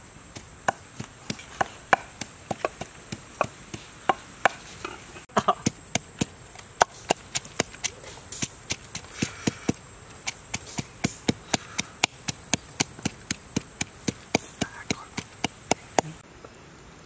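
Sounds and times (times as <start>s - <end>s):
pestle pounding in wooden mortar: 0.4s - 4.6s, 5.3s - 16.2s.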